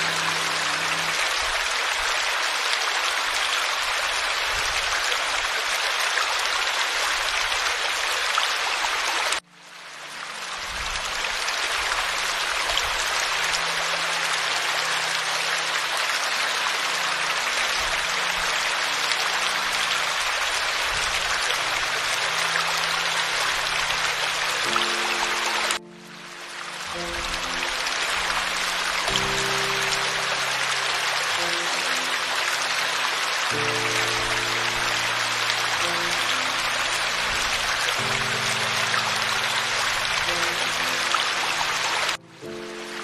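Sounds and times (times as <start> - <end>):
stream splashing over rocks: 0.0 - 43.0.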